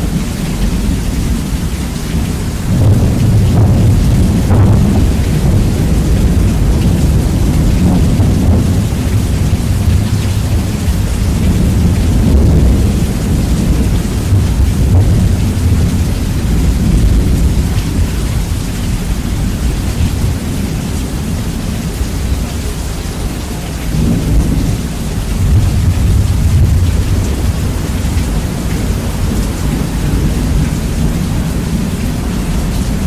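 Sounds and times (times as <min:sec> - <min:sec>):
low thunder rumble: 0:00.0 - 0:33.0
rain hissing: 0:00.0 - 0:33.0.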